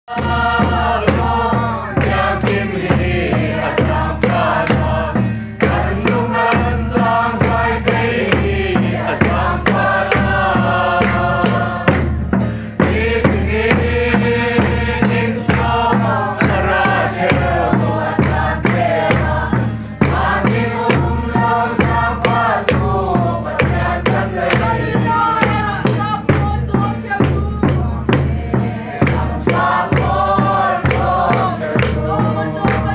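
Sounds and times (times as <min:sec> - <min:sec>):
choir singing a hymn: 0:00.1 - 0:32.9
large drum beating: 0:00.1 - 0:32.9.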